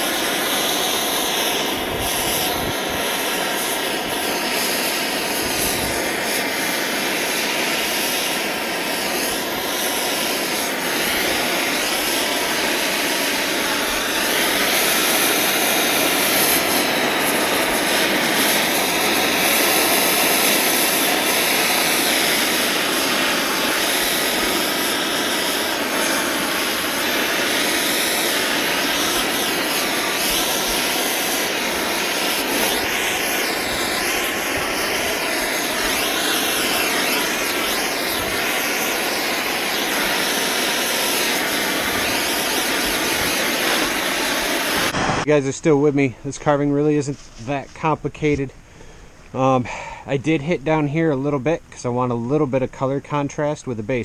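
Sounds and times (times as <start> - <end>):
propane torch flame rushing: 0.0 - 45.6.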